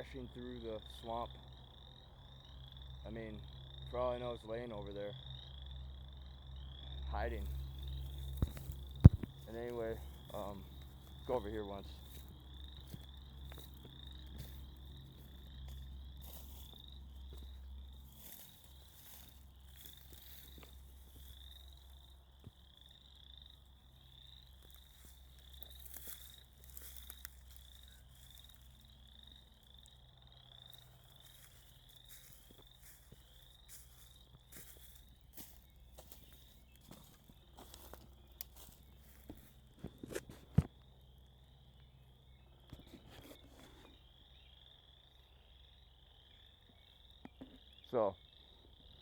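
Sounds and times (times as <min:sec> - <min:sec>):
frogs peeping: 0:00.0 - 0:49.0.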